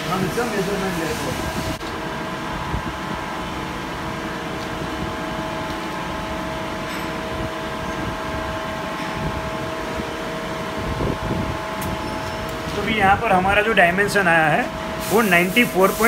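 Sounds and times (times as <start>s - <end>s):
machine pumps and fans humming: 0.0s - 16.0s.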